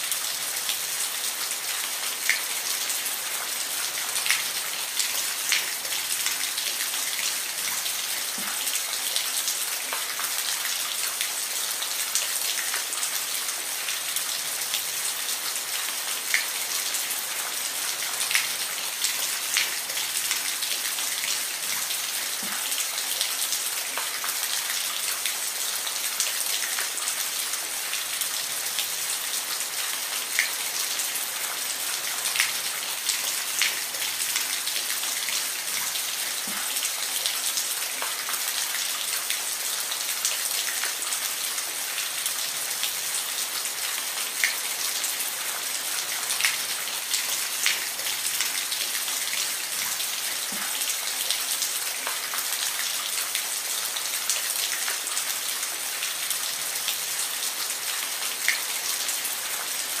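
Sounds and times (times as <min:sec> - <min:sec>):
steady rain hiss: 0:00.0 - 1:00.0.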